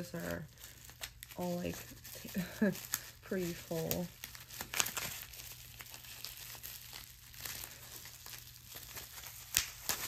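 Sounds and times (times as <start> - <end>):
bubble wrap crinkling and rustling: 0.0 - 10.0.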